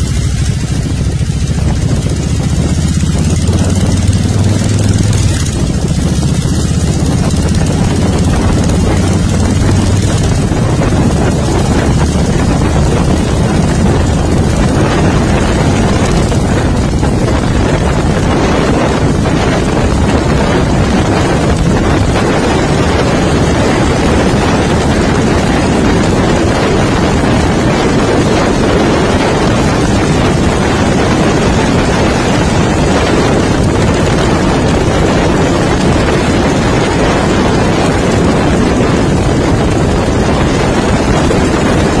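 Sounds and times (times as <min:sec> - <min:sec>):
motorcycle engine running: 0:00.0 - 0:42.0
wind on microphone: 0:00.0 - 0:42.0.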